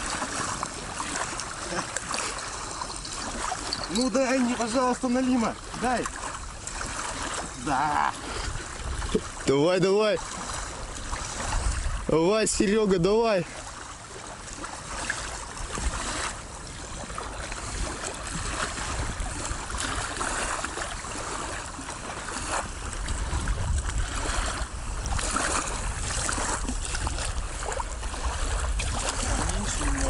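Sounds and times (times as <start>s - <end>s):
wind buffeting microphone: 0.0s - 13.6s, 14.5s - 30.0s
water lapping at shore: 0.0s - 30.0s.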